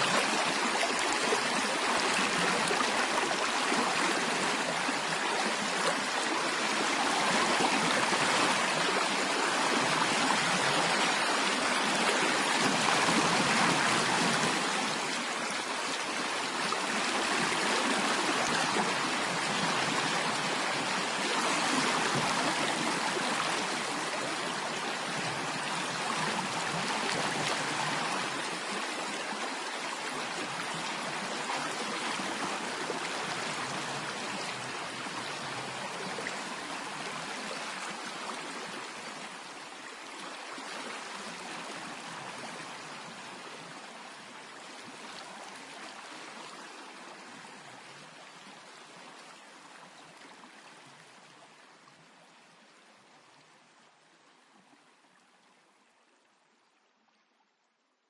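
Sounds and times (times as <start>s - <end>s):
stream water rushing and splashing: 0.0s - 56.0s.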